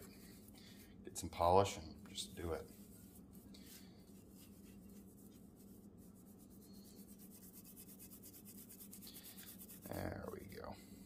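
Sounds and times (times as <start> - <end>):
cloth rag rubbing: 0.0 - 1.5, 2.1 - 10.5.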